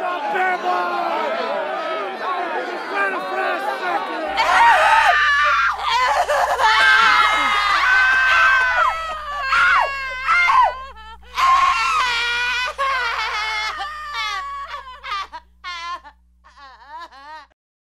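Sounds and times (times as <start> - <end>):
high voices screaming and wailing: 0.0 - 17.4
low steady hum: 0.0 - 17.5.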